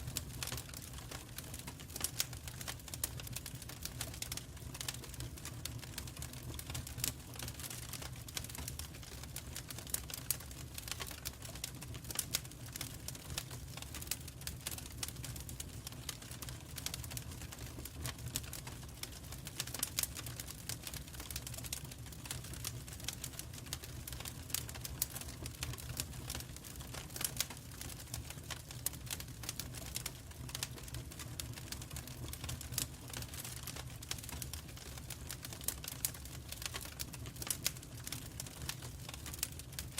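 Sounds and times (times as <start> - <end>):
wood fire crackling: 0.0 - 39.9
low rumble of flames: 0.1 - 39.9.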